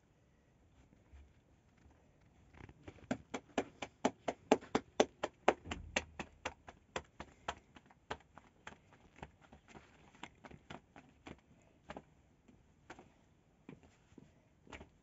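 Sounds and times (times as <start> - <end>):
hands slapping dough: 2.8 - 15.0.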